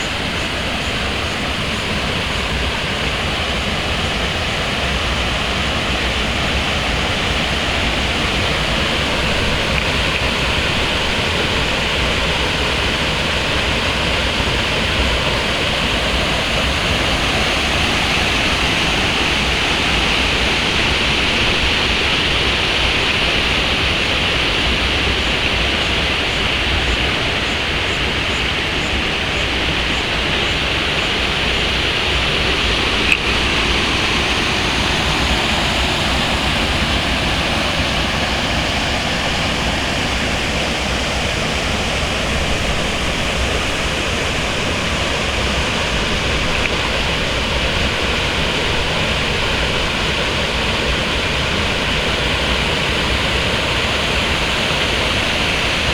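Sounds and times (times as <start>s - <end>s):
steady rushing noise: 0.0s - 55.9s.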